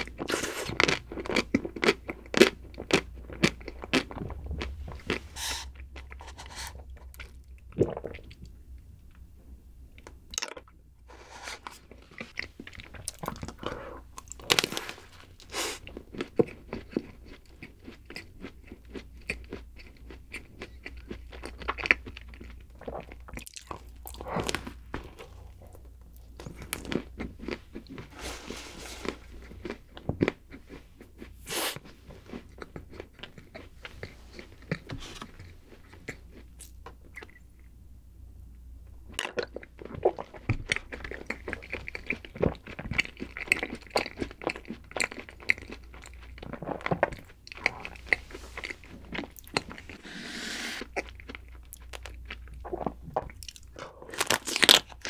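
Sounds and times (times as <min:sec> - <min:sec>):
crunching and chewing: 0:00.0 - 0:08.5, 0:11.6 - 0:37.7, 0:39.1 - 0:50.1, 0:50.8 - 0:55.0.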